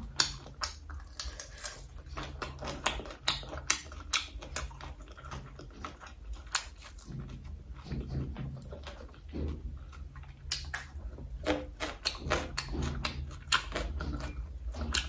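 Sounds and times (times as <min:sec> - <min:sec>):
crunchy wet chewing: 0:00.0 - 0:15.0.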